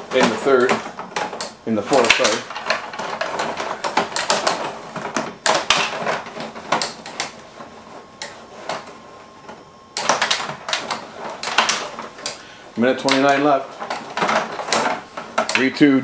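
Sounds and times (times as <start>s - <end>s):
table hockey rods clicking and clattering: 0.0s - 16.0s.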